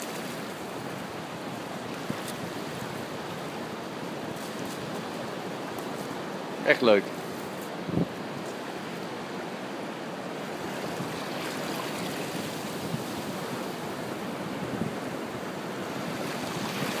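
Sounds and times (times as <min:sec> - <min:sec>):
surf on the beach: 0:00.0 - 0:17.0
wind: 0:00.0 - 0:17.0.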